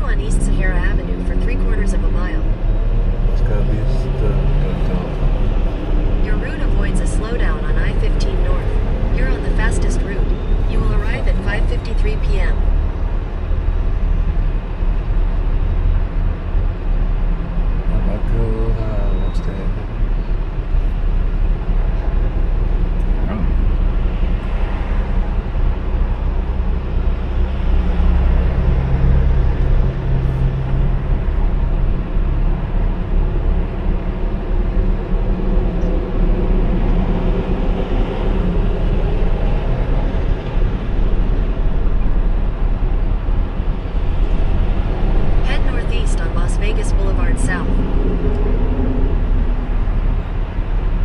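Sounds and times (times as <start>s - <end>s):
car road and engine noise: 0.0s - 51.0s.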